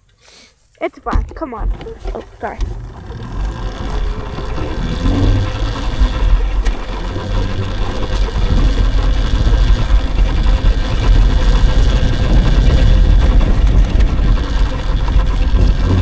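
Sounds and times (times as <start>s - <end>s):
electric motor whine: 1.6s - 16.0s
wind buffeting: 1.6s - 16.0s.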